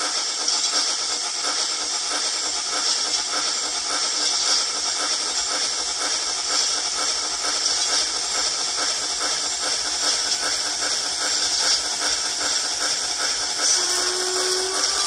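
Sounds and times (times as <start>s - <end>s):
steam engine chuffs from small speaker: 0.0s - 15.0s.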